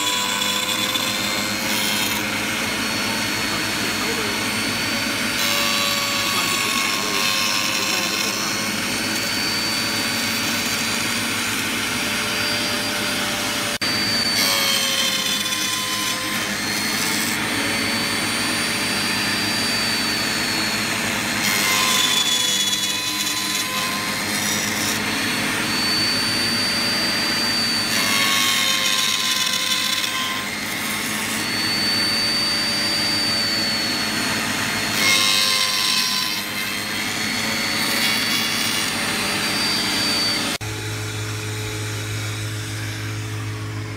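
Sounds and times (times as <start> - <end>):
router bit cutting wood: 0.0 - 43.9
router whining: 0.0 - 43.9.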